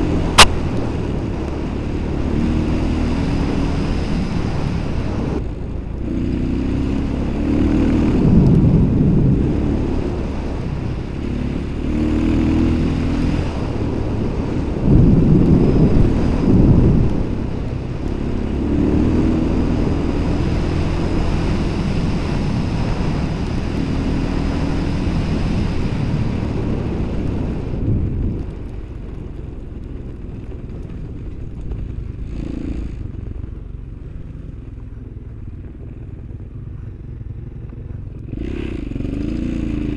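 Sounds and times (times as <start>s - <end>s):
vehicle engine revving: 0.0s - 28.5s, 31.6s - 34.2s, 35.6s - 39.9s
rumble of noise: 0.0s - 39.9s.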